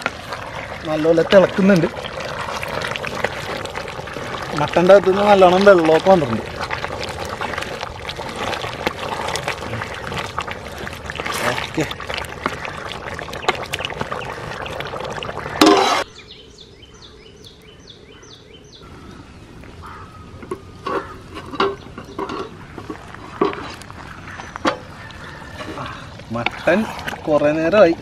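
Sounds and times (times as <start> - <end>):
wooden spoon stirring pot: 0.0 - 16.0, 20.4 - 28.0
thick curry bubbling: 0.0 - 16.1, 18.8 - 28.0.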